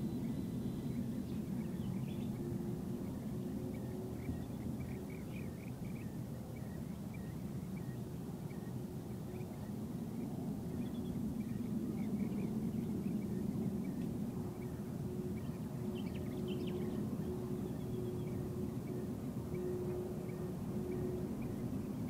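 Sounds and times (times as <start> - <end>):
distant jet engines rumbling: 0.0 - 22.0
small birds chirping: 0.0 - 22.0.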